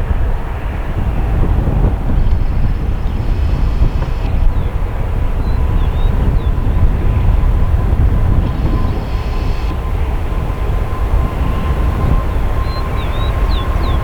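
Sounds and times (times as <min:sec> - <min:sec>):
jet engine deep rumble: 0:00.0 - 0:14.0
thin steady whine: 0:00.0 - 0:14.0.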